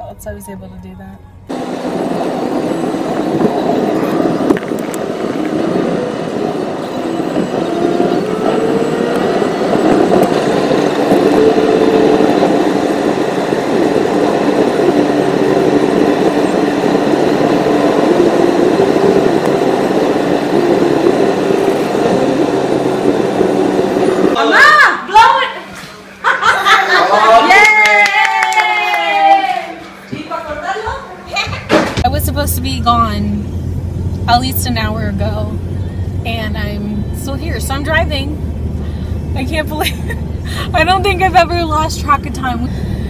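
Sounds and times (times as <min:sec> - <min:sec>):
engine and tyre hum: 0:00.0 - 0:24.4, 0:32.0 - 0:43.0.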